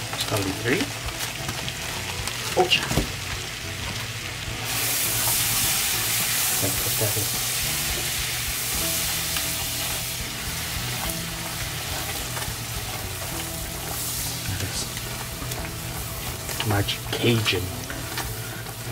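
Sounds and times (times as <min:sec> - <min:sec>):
butter sizzling in a metal pot: 0:00.0 - 0:18.9.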